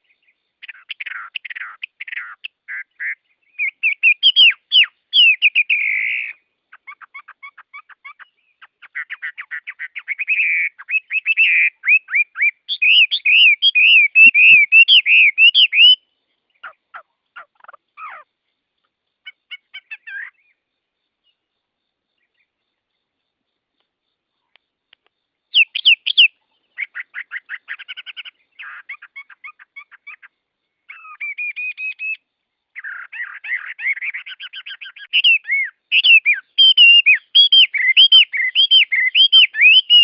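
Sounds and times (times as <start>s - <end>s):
songbirds trilling: 0.0s - 40.0s.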